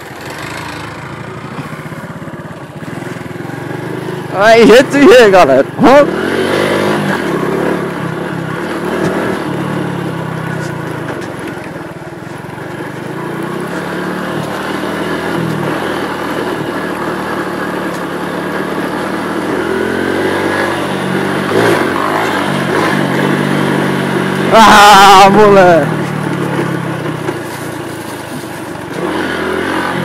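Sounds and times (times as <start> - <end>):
motorbike engine running: 0.0 - 30.0.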